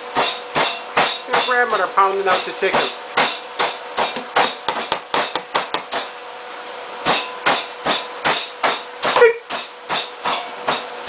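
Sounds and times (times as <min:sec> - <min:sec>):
meat being pounded: 0:00.1 - 0:01.6, 0:02.3 - 0:06.1, 0:07.0 - 0:10.9.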